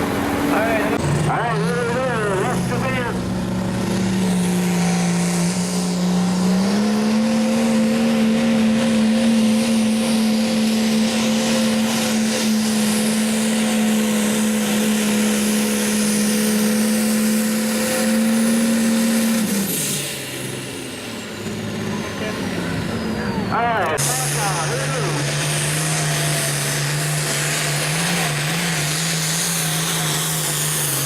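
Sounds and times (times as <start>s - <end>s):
tractor engine at high rpm: 0.0s - 31.0s.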